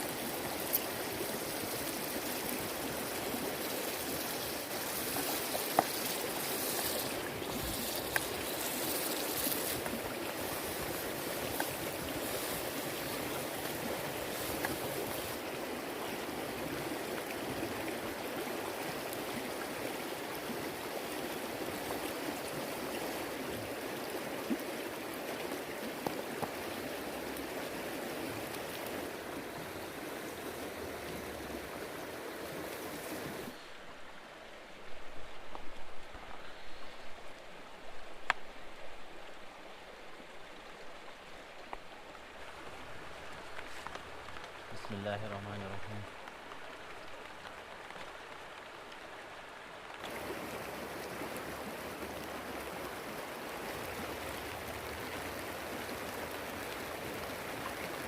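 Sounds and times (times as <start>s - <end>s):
flowing stream rushing: 0.0s - 58.0s.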